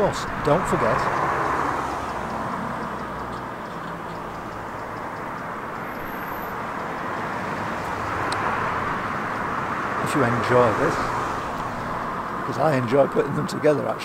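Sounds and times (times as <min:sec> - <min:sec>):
distant city traffic: 0:00.0 - 0:14.0.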